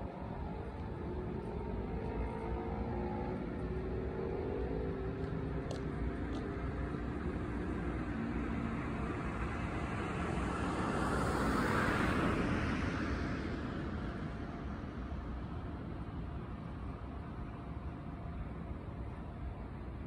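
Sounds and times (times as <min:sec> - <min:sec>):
road vehicle passing by: 0:00.0 - 0:18.6.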